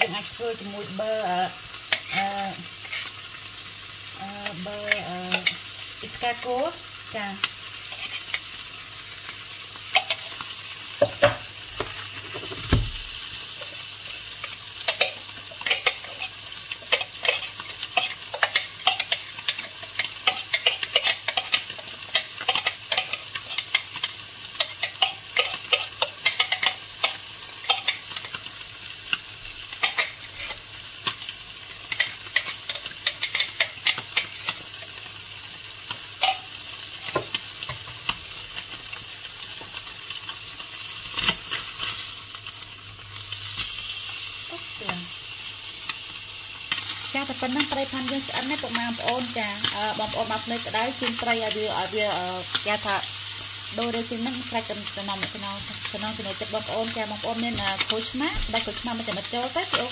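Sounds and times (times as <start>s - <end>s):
fish sizzling in a pan: 0.0s - 59.9s.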